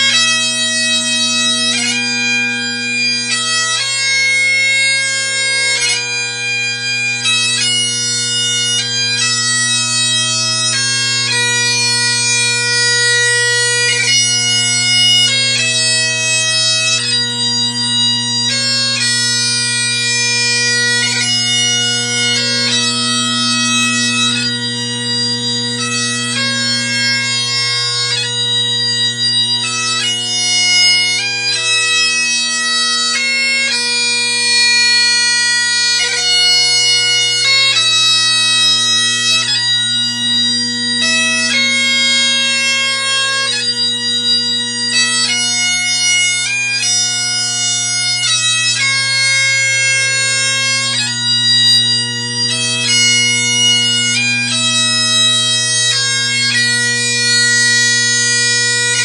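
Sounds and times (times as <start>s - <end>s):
bagpipe chanter melody: 0.0s - 59.0s
bagpipe drones: 0.0s - 59.0s.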